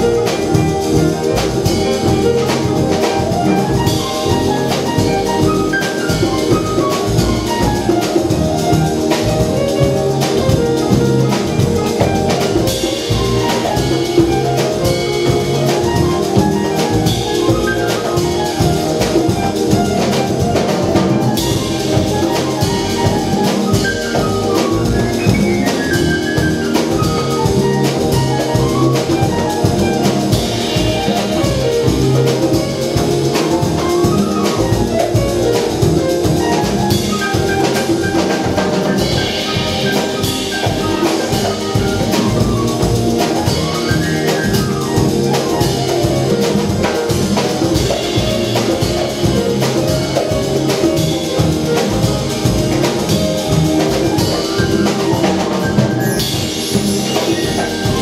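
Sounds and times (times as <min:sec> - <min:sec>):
congas: 0:00.0 - 0:58.0
double bass: 0:00.0 - 0:58.0
drum kit groove: 0:00.0 - 0:58.0
piano runs: 0:00.0 - 0:58.0.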